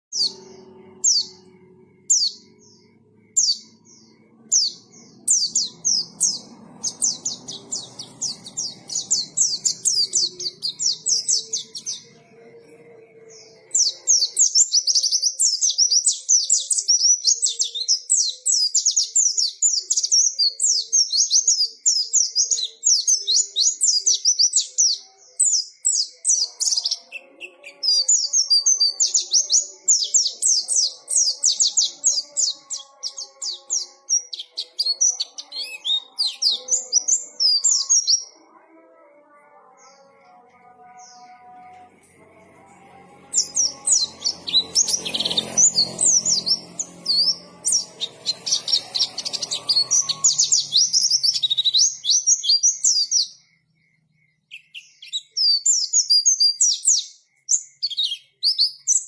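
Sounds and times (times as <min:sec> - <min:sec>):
bird singing in rapid chirps: 0:00.0 - 0:59.0.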